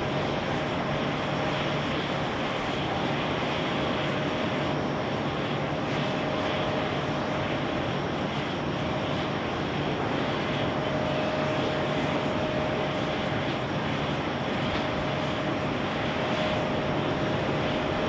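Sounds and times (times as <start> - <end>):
jet engine roar with whine: 0.0 - 18.0.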